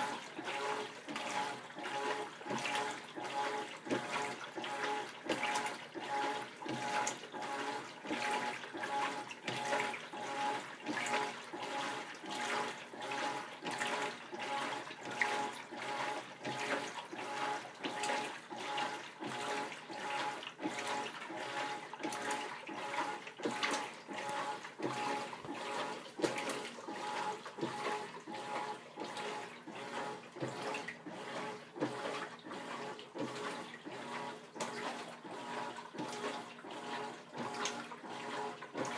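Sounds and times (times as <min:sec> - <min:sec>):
washer drive hum: 0:00.0 - 0:38.9
water and clothes sloshing: 0:00.0 - 0:38.9.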